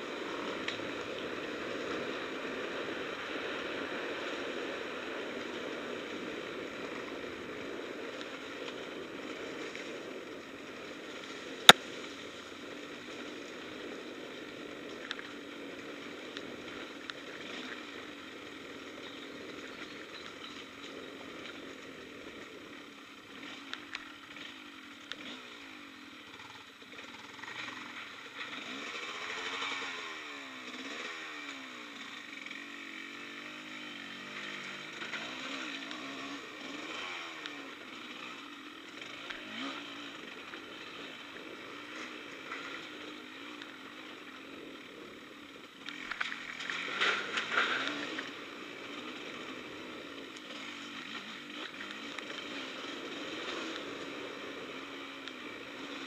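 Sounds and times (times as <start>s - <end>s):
off-road motorcycle engine running: 0.0s - 56.0s.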